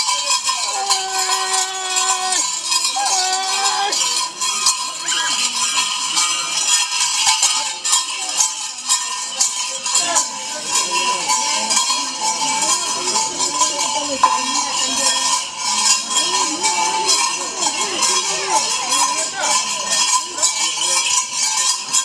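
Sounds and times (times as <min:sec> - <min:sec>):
hand cymbals clanging: 0:00.0 - 0:22.0.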